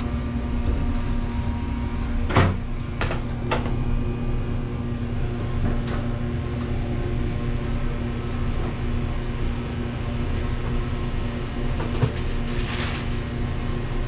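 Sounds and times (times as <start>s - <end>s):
dish machine humming: 0.0s - 14.0s.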